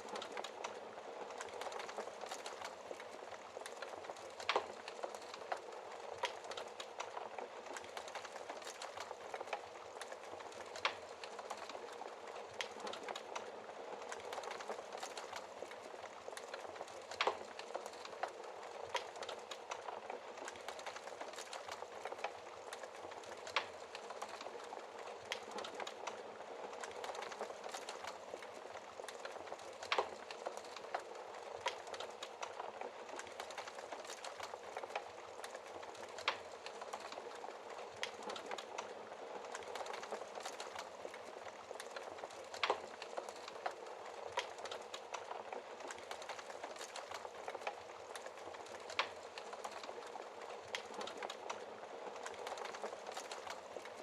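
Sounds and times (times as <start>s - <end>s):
fireplace fire crackling: 0.0s - 54.0s.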